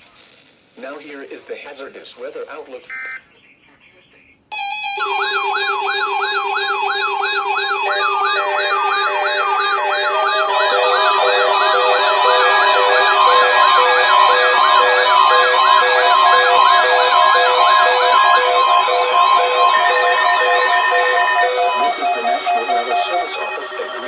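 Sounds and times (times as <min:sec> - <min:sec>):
electronic siren sweeping: 0:04.5 - 0:24.0
repeating electronic beeps: 0:04.5 - 0:24.0.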